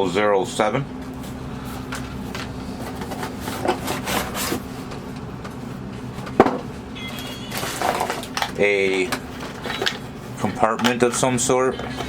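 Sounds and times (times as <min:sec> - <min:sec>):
steady low hum: 0:00.0 - 0:12.0
rustling of machine parts handled: 0:01.2 - 0:12.0.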